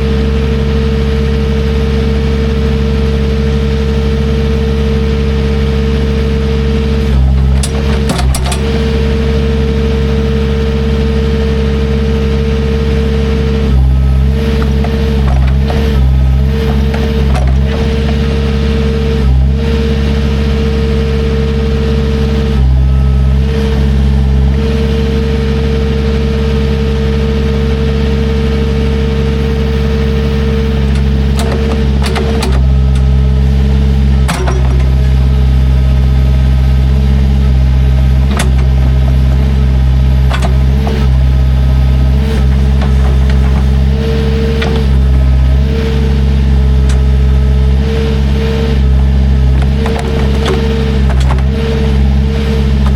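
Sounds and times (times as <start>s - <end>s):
digging machine engine: 0.0s - 52.9s.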